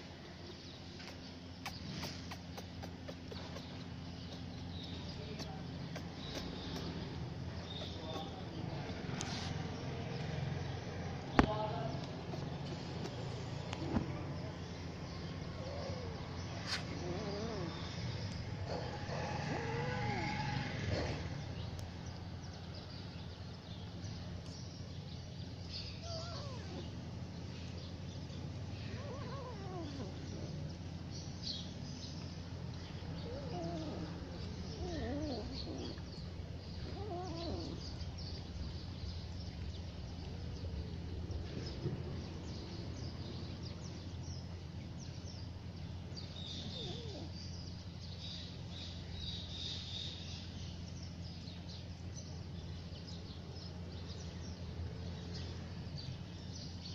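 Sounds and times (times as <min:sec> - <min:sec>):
low outdoor background rumble: 0:00.0 - 0:56.9.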